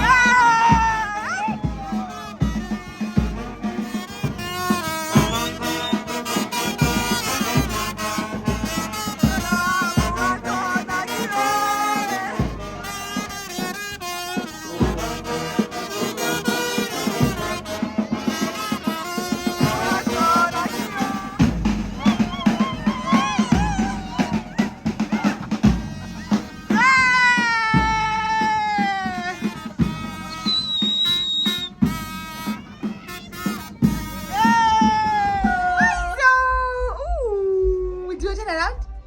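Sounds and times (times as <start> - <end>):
music with brass melody: 0.0 - 36.0.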